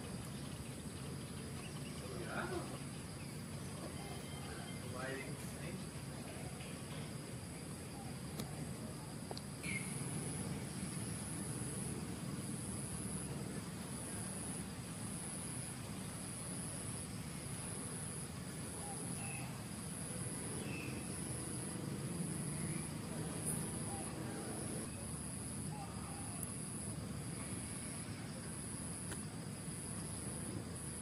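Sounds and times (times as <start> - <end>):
insect chirping trill: 0.0 - 31.0
low background noise: 0.0 - 31.0.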